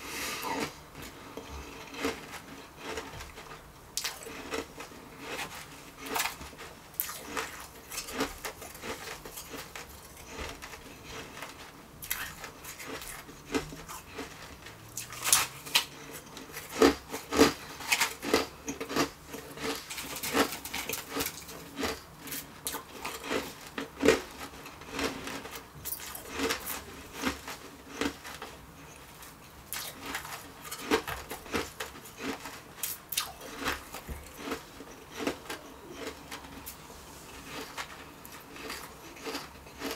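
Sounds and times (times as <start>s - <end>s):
crunching shaved ice: 4.0s - 29.0s, 29.7s - 36.6s, 37.5s - 39.9s.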